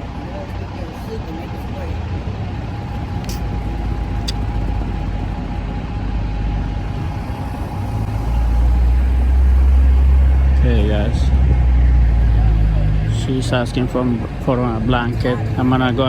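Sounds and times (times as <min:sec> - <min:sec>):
heavy vehicle passing: 0:00.0 - 0:16.0
traffic engine rumble: 0:00.0 - 0:16.0.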